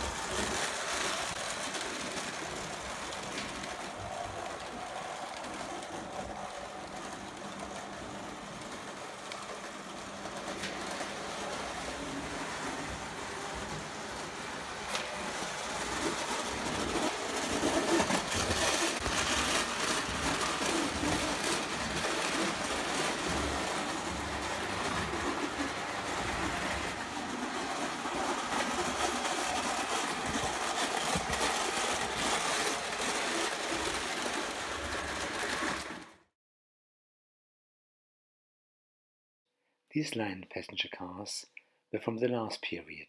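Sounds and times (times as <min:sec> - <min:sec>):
toy train rumbling on metal track: 0:00.0 - 0:36.3.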